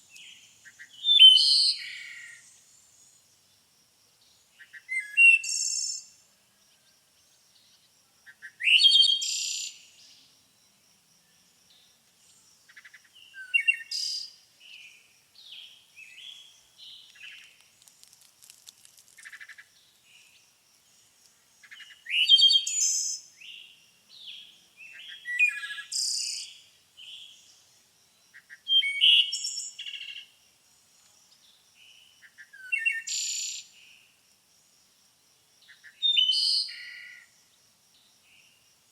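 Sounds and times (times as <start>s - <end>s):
songbirds singing: 0.0s - 17.6s, 19.0s - 34.1s.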